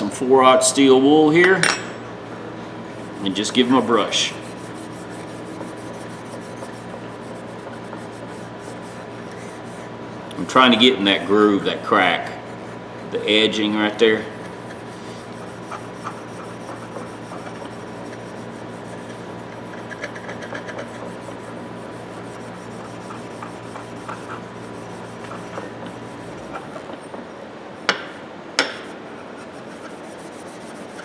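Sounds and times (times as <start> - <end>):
steel wool scratching metal: 2.9 - 27.2, 27.8 - 31.0.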